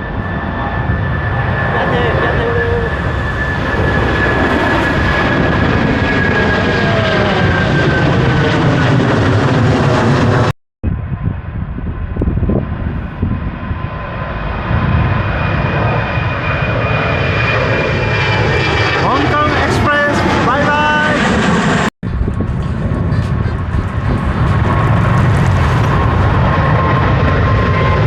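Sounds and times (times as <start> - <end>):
jet engines roaring and whining: 0.0 - 28.0.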